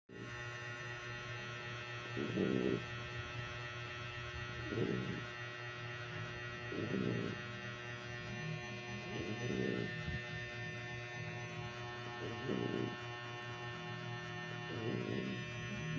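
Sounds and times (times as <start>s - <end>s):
dog snoring: 0.1s - 15.9s
steady electrical hum: 0.1s - 15.9s.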